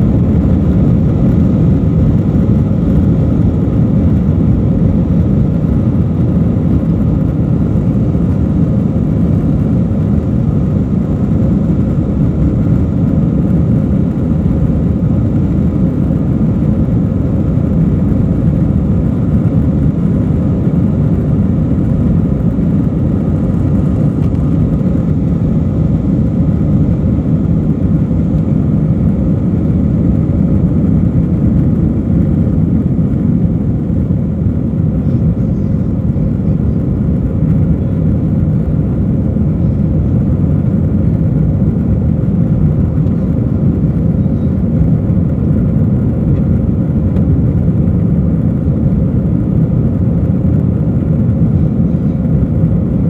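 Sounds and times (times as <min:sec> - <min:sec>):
jet engines rumbling in cabin: 0:00.0 - 0:53.0.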